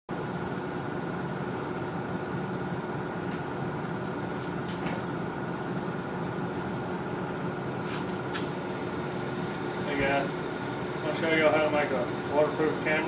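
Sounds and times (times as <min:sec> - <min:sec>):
mechanical hum: 0:00.1 - 0:13.0.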